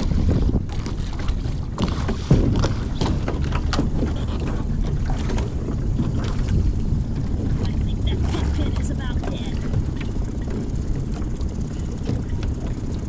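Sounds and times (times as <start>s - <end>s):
rowing boat knocks: 0.0s - 13.0s
wind rumbling on microphone: 0.0s - 13.0s.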